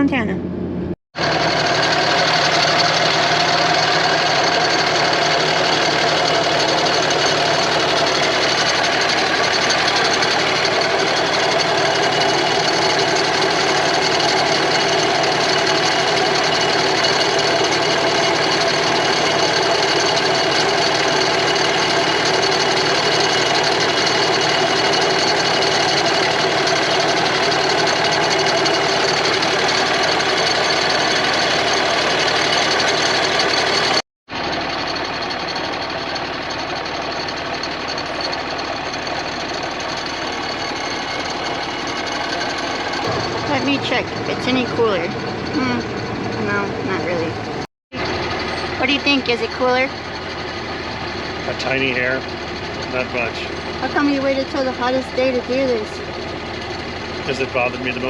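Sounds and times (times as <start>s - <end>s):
engine noise inside truck cab: 0.0s - 58.0s.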